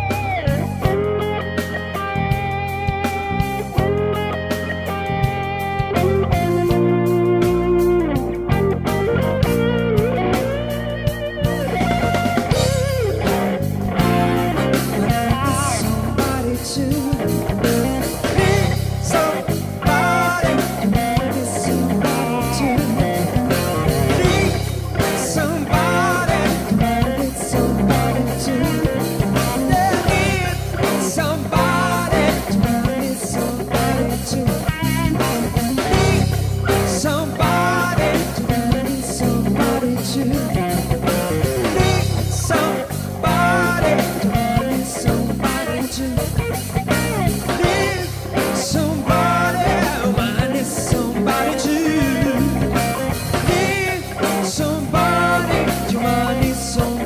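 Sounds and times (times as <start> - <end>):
rock music with singing: 0.0 - 57.0.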